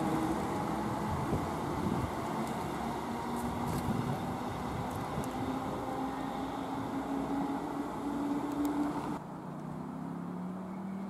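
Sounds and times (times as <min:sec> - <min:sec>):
electric train rumbling past: 0:00.0 - 0:09.2.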